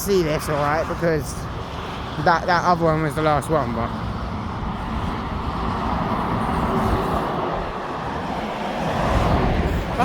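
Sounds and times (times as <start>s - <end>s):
motorway traffic passing: 0.0s - 10.0s.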